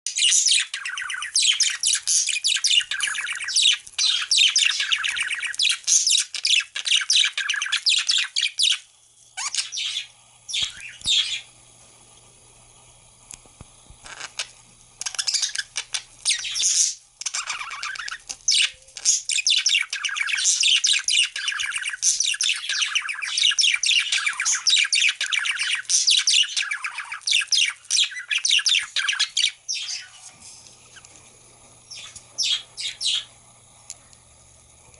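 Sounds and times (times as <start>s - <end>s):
budgerigars chirping and warbling: 0.1s - 8.8s, 9.4s - 11.5s, 14.1s - 30.3s, 31.9s - 33.3s.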